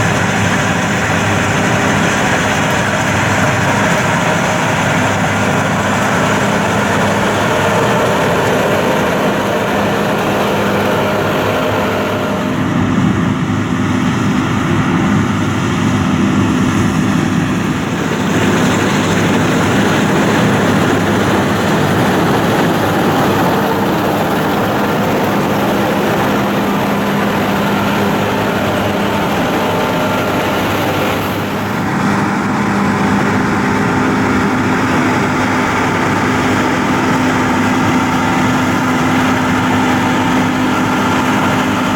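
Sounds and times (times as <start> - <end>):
diesel machinery engine hum: 0.0 - 41.9.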